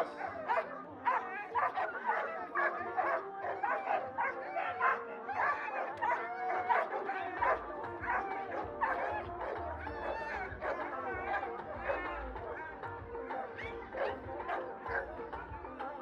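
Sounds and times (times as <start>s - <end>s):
dogs barking: 0.0s - 16.0s
music playing: 0.0s - 16.0s.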